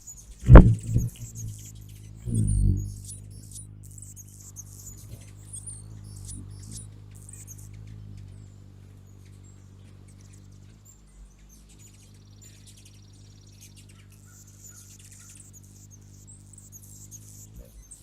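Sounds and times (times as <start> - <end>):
buzzy hummingbird chatter: 0.0 - 18.0
hummingbirds squeaking: 0.0 - 18.0
low steady hum: 0.0 - 18.0.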